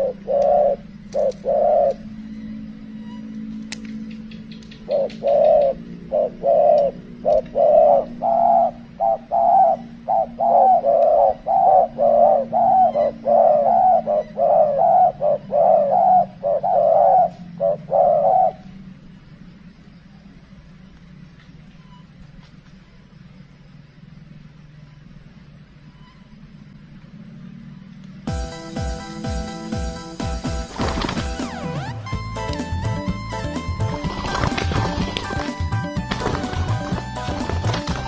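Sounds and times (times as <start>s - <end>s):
doves cooing: 0.0s - 38.0s
low steady hum: 0.0s - 38.0s.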